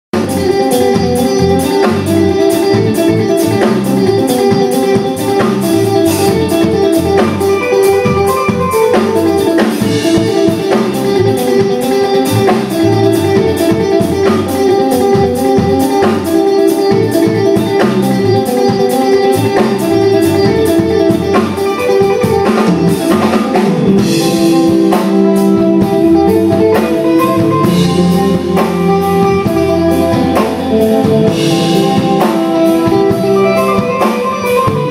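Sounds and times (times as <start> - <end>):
bass guitar: 0.0 - 34.9
electric guitar: 0.0 - 34.9
drum kit steady beat: 0.1 - 34.9.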